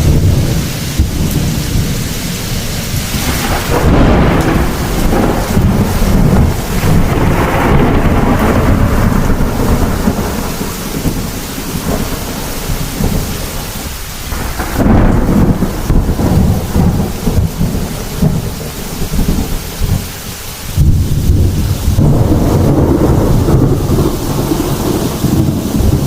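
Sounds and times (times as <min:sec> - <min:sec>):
heavy rain: 0:00.0 - 0:26.0
rolling thunder: 0:00.0 - 0:26.0.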